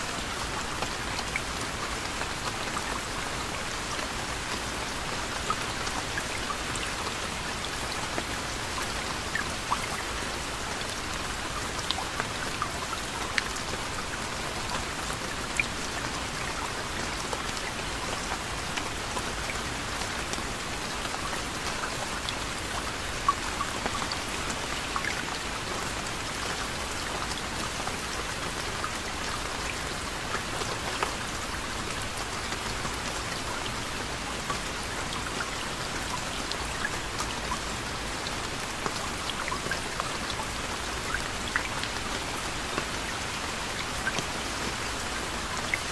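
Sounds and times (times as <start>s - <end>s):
gentle rain: 0.0s - 45.9s
raindrops ticking on a surface: 0.0s - 45.9s.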